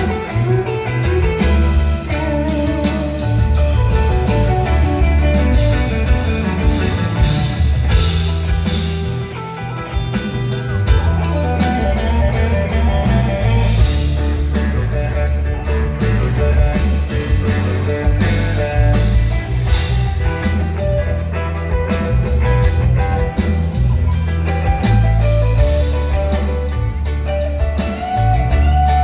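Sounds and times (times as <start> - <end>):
bass line: 0.0 - 29.0
drum kit: 0.0 - 29.0
electric guitar: 0.0 - 29.0.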